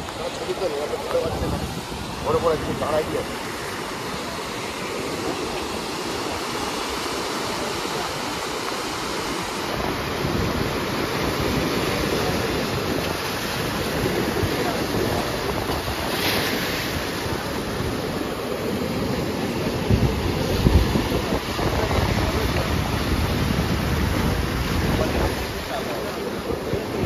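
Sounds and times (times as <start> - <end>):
surf breaking on rocks: 0.0 - 27.0
wind buffeting microphone: 0.0 - 27.0.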